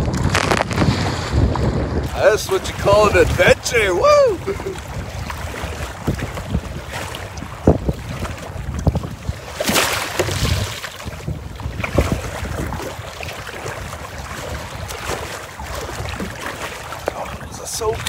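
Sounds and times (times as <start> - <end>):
water slapping against kayak: 0.0 - 18.0
wind buffeting microphone: 0.0 - 18.0.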